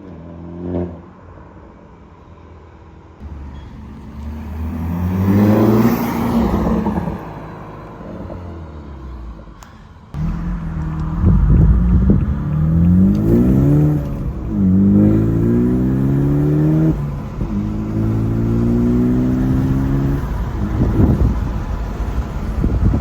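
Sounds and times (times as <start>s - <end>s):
car engine accelerating: 3.2s - 23.0s.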